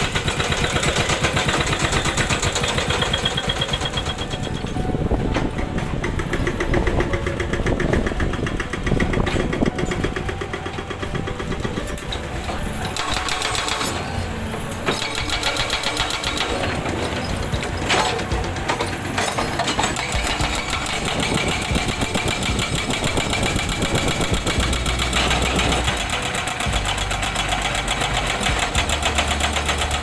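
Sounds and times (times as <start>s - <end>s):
diesel engine running: 0.0s - 30.0s
hydraulic breaker hammering rock: 0.0s - 30.0s.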